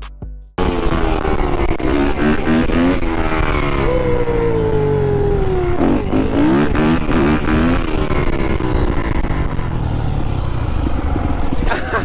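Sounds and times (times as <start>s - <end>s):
dirt bike engine droning: 0.6s - 12.0s
engine throttle blips: 0.6s - 12.0s.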